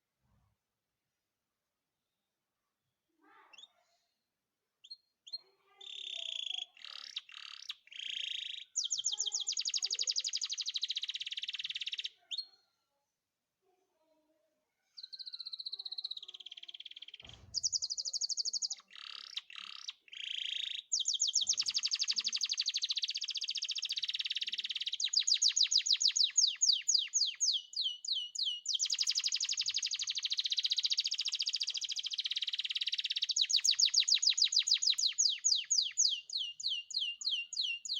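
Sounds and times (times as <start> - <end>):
canary singing trills: 4.8 - 12.6, 15.0 - 37.9.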